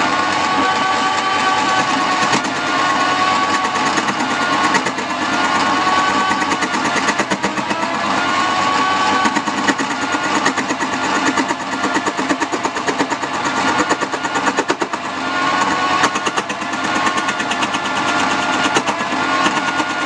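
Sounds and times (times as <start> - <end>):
lathe motor whine: 0.0 - 20.0
turning tool rasping chatter: 0.0 - 20.0.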